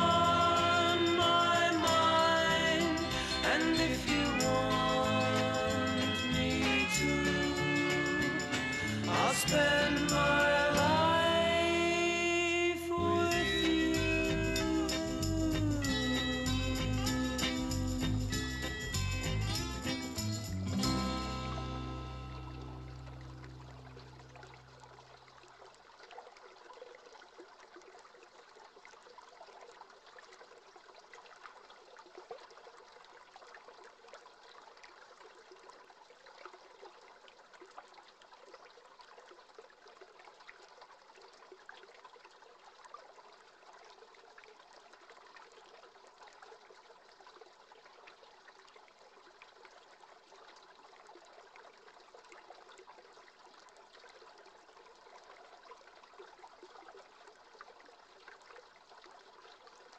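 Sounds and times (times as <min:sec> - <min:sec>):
creek trickling: 0:00.0 - 0:59.9.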